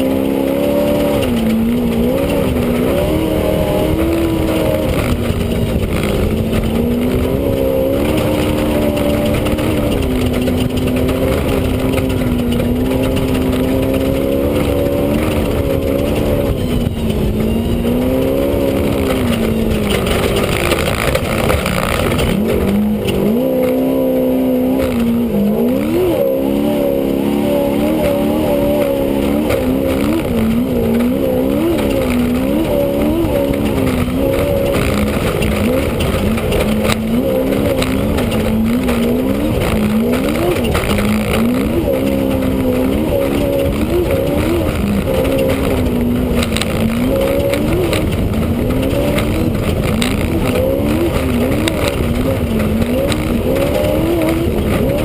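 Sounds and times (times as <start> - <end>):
engine revving: 0.0 - 55.0
steady rush of noise: 0.0 - 55.0.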